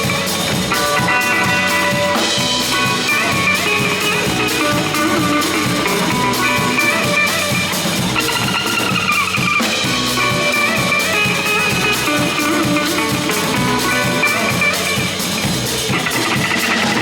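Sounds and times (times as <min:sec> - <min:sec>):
drum kit steady beat: 0:00.0 - 0:17.0
guitar melody: 0:00.0 - 0:17.0.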